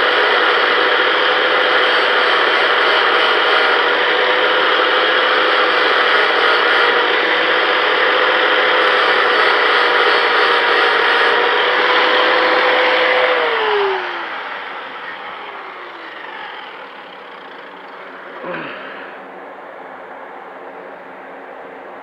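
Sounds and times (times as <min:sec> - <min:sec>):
angle grinder sanding metal: 0:00.0 - 0:18.8.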